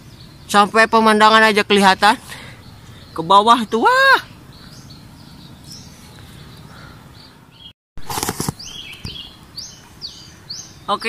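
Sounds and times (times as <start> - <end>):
faint high bird chirps: 0.0 - 7.7, 8.6 - 11.0
small birds chirping: 0.0 - 11.0.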